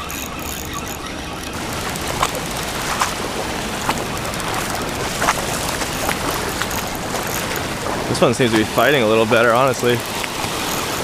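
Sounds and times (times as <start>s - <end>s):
ocean surf on rocks: 0.0s - 11.0s.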